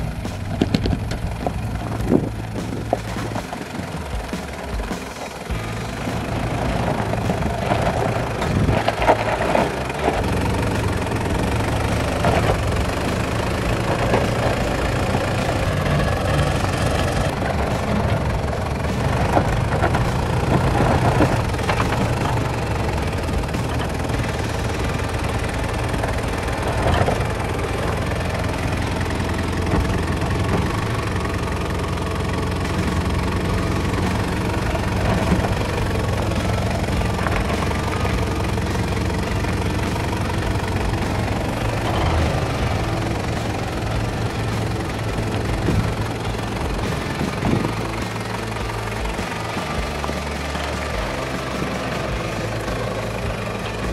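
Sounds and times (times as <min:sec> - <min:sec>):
dirt and stones crunching under tyres: 0:00.0 - 0:53.9
engine running at low revs: 0:00.0 - 0:53.9.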